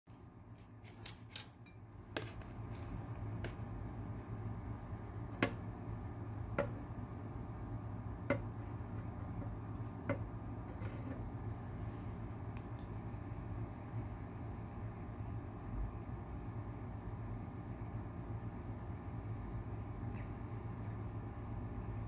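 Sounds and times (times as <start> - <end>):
steady low hum: 0.1 - 22.0.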